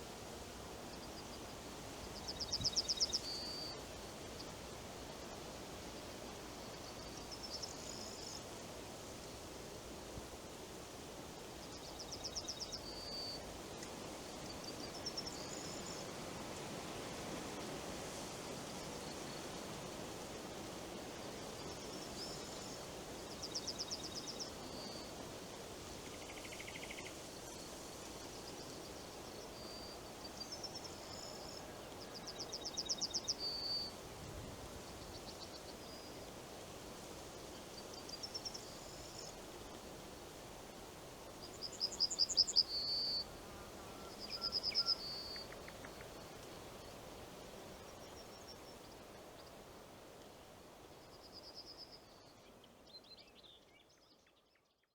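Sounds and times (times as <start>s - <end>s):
wind in leaves: 0.0s - 54.9s.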